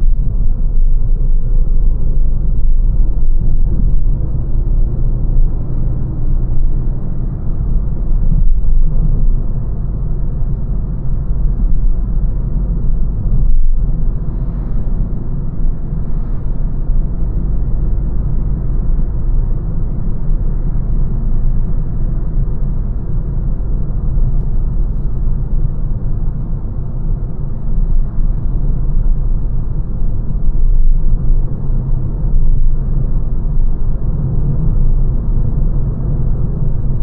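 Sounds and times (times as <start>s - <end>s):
road and tyre noise in car cabin: 0.0s - 37.0s.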